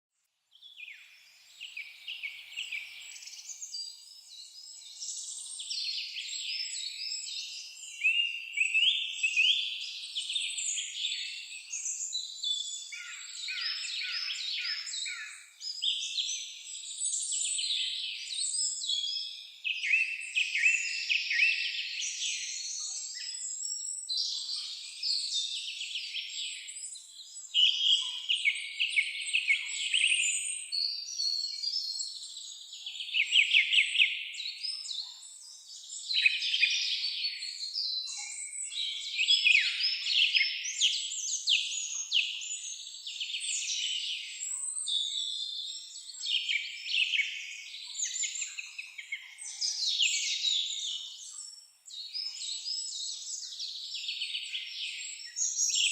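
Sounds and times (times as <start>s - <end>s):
songbirds trilling and chirping: 0.6s - 55.9s.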